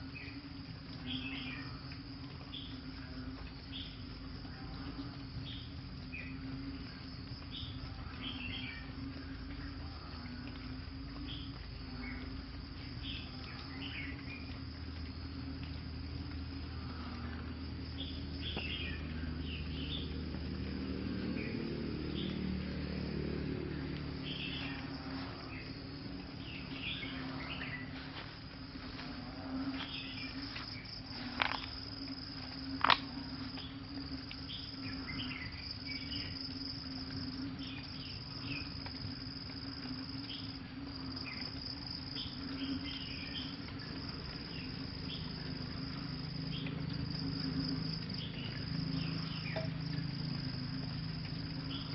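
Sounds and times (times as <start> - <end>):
crickets trilling: 0.0 - 51.9
low rumble: 0.0 - 51.9.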